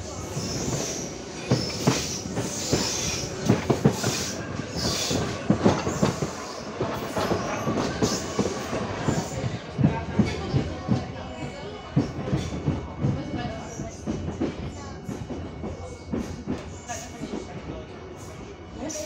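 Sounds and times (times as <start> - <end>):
train running noise: 0.0 - 19.0.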